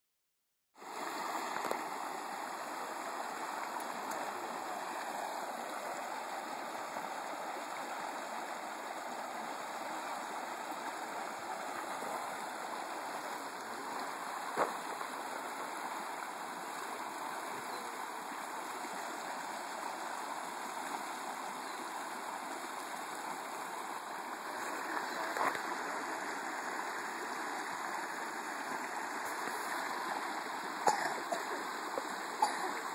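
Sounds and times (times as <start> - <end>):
water rushing over rocks: 0.8 - 32.9.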